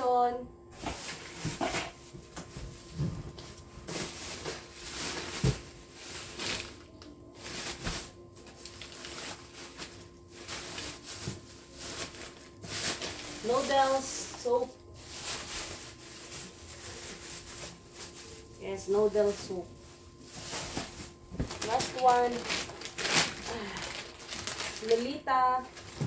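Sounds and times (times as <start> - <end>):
plastic packaging rustling: 0.8 - 26.0.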